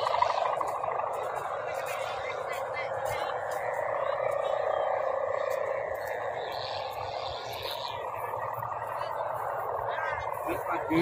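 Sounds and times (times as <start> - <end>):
kite hummers droning: 0.0 - 11.0.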